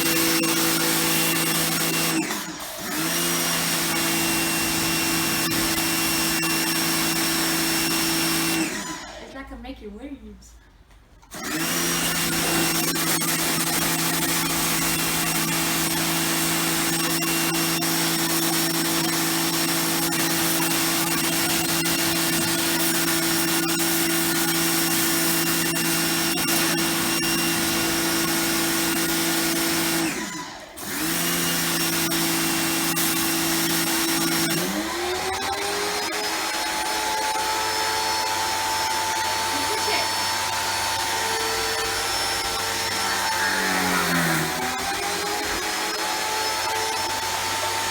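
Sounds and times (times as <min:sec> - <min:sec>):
pressure washer motor humming: 0:00.0 - 0:09.2, 0:11.3 - 0:47.9.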